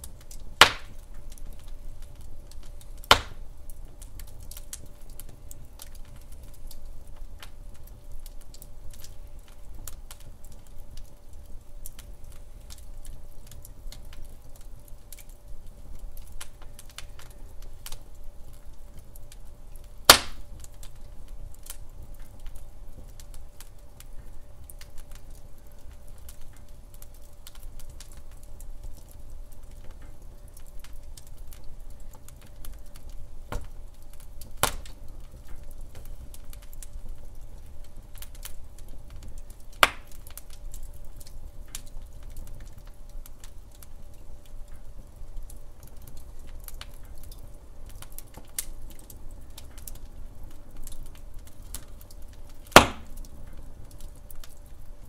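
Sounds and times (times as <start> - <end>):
sharp pops of fire: 0.0 - 54.9
wood fire crackling: 0.0 - 55.0.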